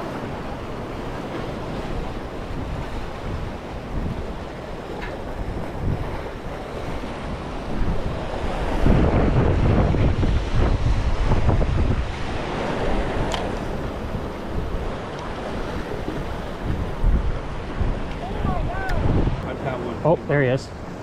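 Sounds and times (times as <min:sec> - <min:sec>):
ocean surf washing: 0:00.0 - 0:21.0
wind buffeting microphone: 0:00.0 - 0:21.0.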